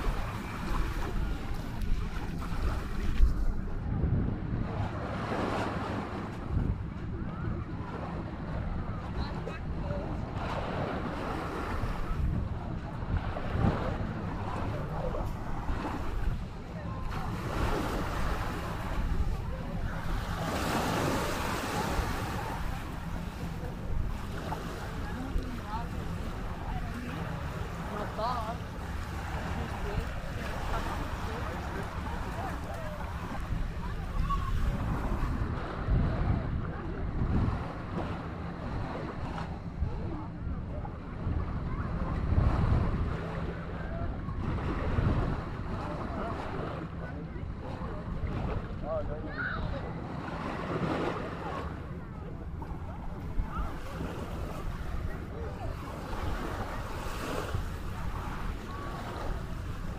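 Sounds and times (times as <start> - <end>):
faint voices: 0.0 - 59.9
small waves lapping on beach: 0.0 - 59.9
wind buffeting microphone: 0.0 - 59.9.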